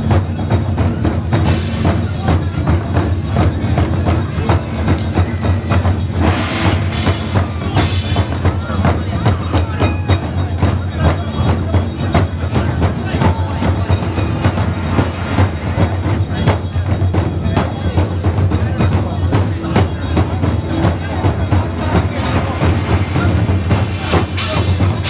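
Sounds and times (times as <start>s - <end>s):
festival music with rapid percussion: 0.0s - 25.0s.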